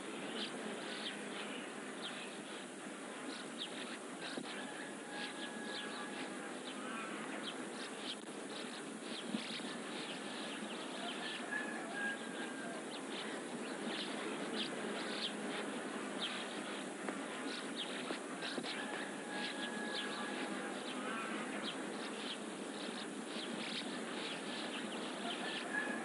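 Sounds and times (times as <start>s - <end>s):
small birds chirping: 0.0s - 26.0s
steady background hiss: 0.0s - 26.0s.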